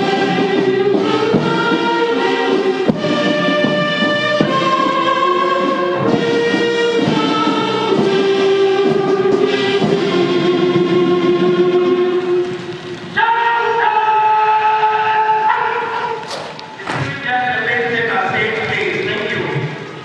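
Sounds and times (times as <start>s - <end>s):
ceremonial band music: 0.0s - 20.0s.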